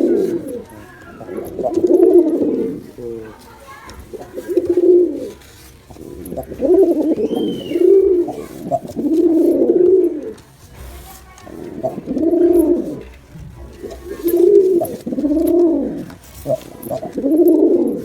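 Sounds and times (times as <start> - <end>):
pigeon cooing: 0.0 - 10.5, 11.3 - 18.0.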